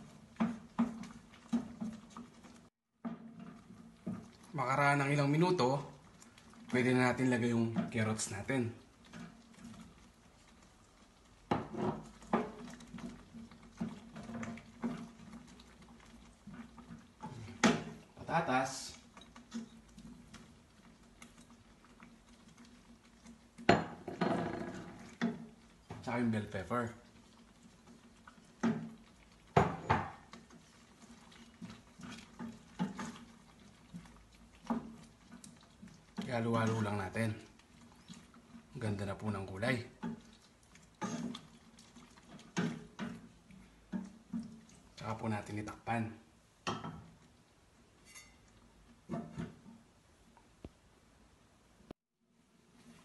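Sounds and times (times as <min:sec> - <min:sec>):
wooden spatula scraping metal pot: 0:00.0 - 0:46.0, 0:48.0 - 0:49.8
stew being stirred: 0:00.0 - 0:50.8, 0:52.2 - 0:53.0.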